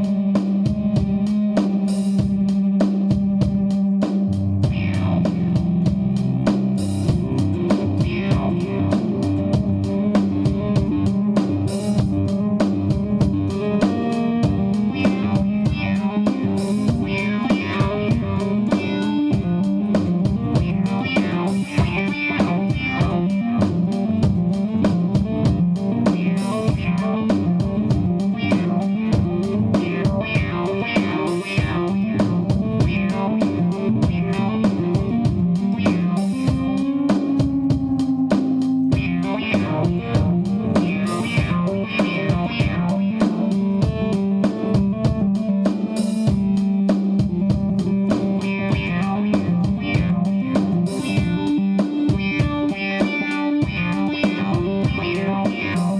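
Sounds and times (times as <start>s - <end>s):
guitar band music: 0.0s - 55.9s.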